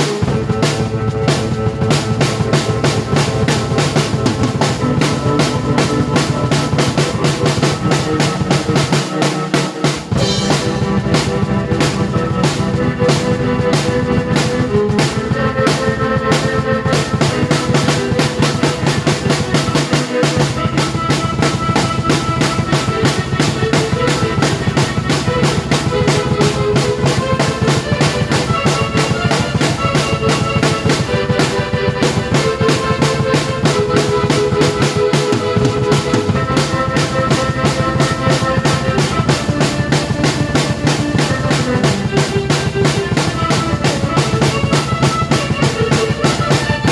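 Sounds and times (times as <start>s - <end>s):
drum kit beat: 0.0s - 46.9s
keyboard melody: 0.0s - 46.9s.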